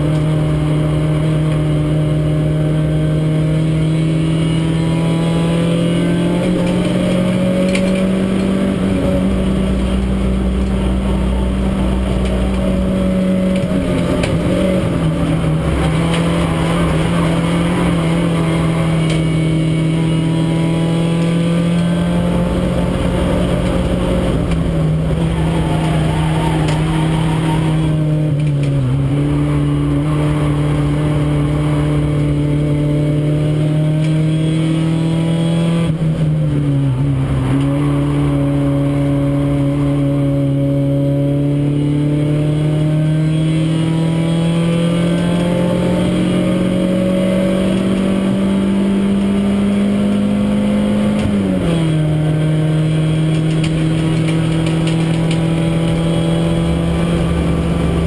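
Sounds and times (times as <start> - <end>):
race car engine from inside cabin: 0.0 - 58.0.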